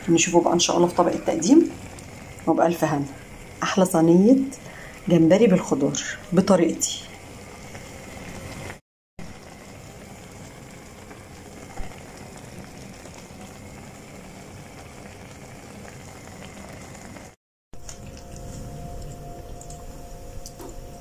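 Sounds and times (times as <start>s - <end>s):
stew simmering in a frying pan: 0.0s - 21.0s.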